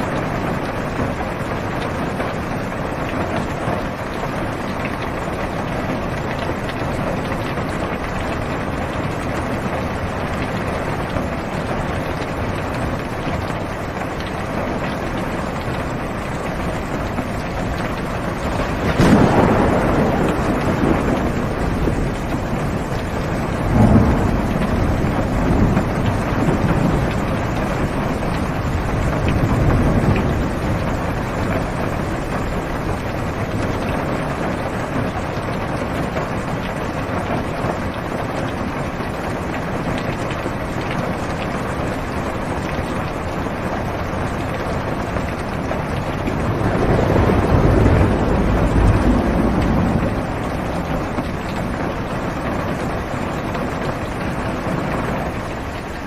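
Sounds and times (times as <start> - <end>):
low thunder rumbling: 0.0 - 55.9
heavy rain on car roof: 0.0 - 56.0.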